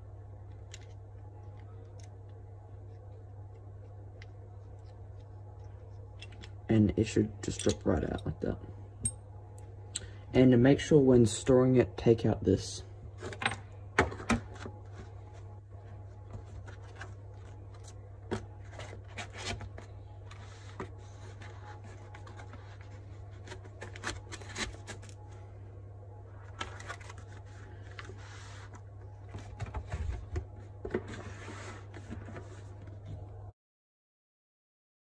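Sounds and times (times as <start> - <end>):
steady low hum: 0.0 - 33.5.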